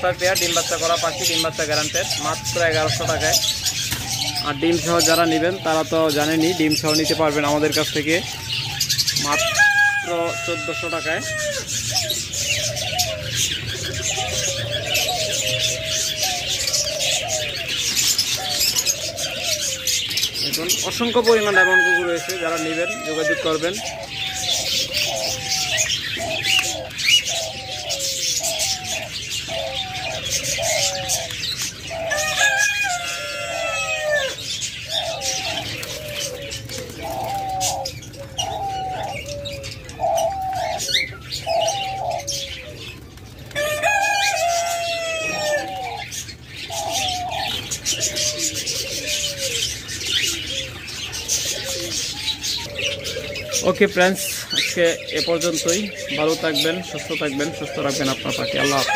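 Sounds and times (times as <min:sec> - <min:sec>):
doves cooing: 0:00.0 - 0:58.9
small birds chirping: 0:00.0 - 0:58.9.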